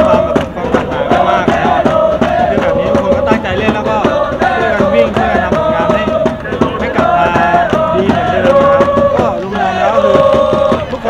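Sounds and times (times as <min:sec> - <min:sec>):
crowd chanting in unison: 0:00.0 - 0:11.0
steady drum beat: 0:00.0 - 0:11.0.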